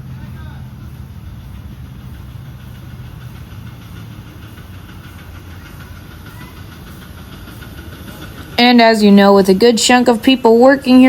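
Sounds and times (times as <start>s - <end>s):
faint steam hiss: 0.0s - 11.0s
model steam train rumbling: 0.0s - 11.0s.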